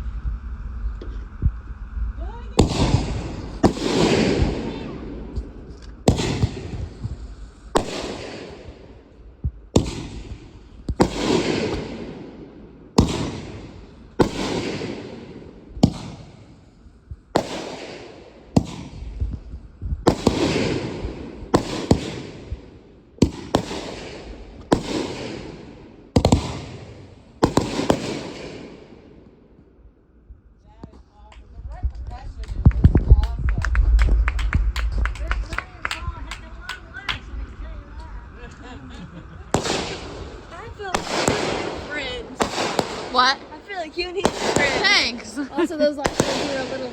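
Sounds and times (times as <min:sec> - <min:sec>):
fireworks crackling: 0:00.0 - 0:29.4, 0:30.9 - 0:46.9
fireworks bangs with crackle: 0:02.2 - 0:29.5, 0:30.8 - 0:38.7, 0:39.3 - 0:46.9.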